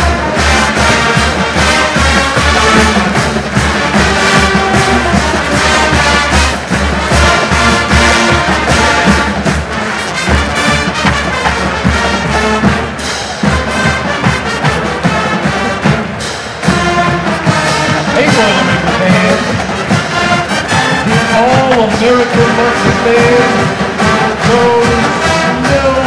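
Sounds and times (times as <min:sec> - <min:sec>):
brass instruments: 0:00.0 - 0:26.0
steady drum beat: 0:00.0 - 0:26.0.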